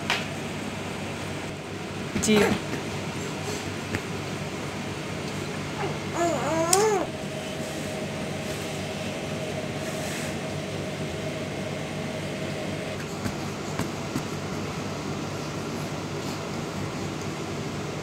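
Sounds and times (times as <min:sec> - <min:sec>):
room hum: 0:00.0 - 0:18.0.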